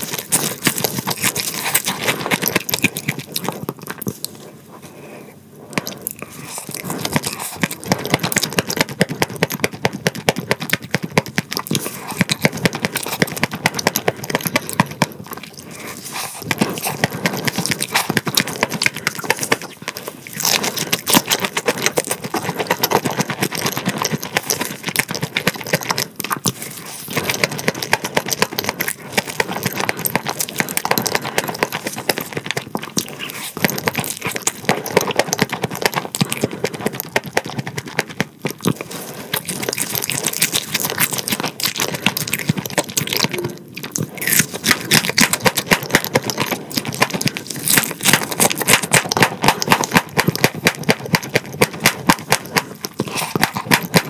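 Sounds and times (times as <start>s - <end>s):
crunching crispy fried food: 0.0s - 4.4s, 5.8s - 54.0s.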